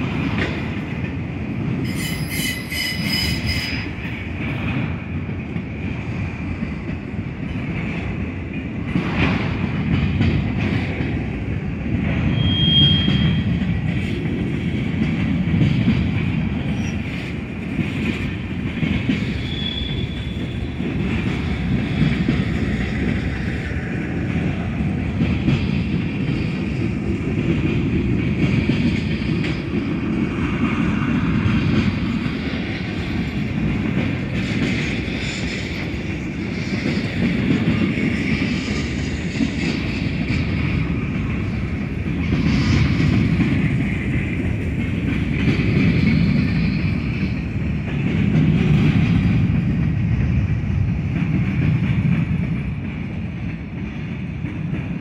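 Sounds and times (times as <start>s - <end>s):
train wheels rumbling on rail: 0.0s - 55.0s
wheels clacking over rail joints: 0.0s - 55.0s.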